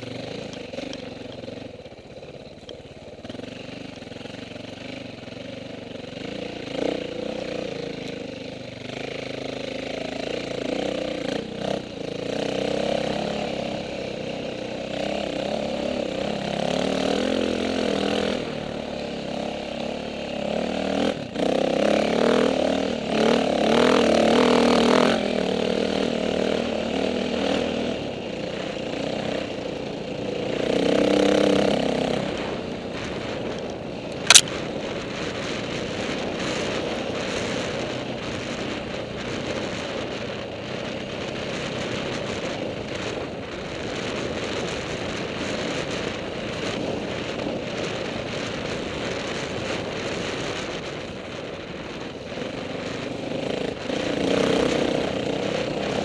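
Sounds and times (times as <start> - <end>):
dirt bike engine revving: 3.2 - 40.4, 41.5 - 56.0.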